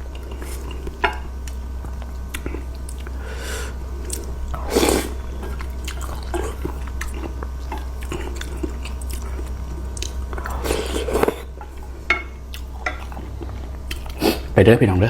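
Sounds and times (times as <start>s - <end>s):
wet chewing of noodles: 0.0s - 14.5s
steady low hum: 0.0s - 15.0s.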